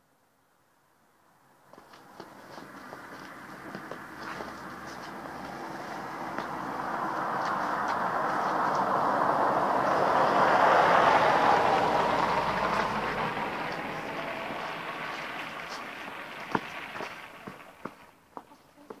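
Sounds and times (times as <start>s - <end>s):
vehicle passing by: 2.0s - 18.2s.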